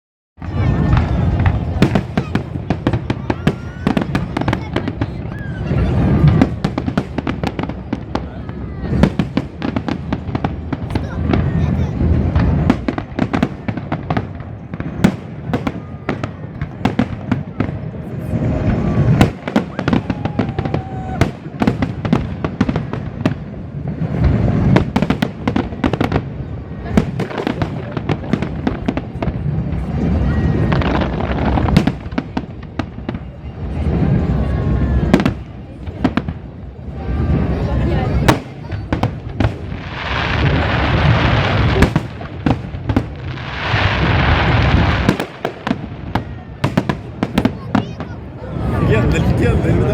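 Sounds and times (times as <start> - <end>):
deep fireworks booms: 0.4 - 49.9
fireworks bangs and crackles: 0.4 - 49.9.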